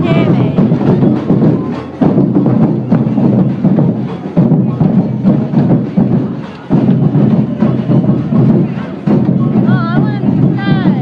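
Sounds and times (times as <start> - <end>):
loud rhythmic drumming: 0.0 - 11.0.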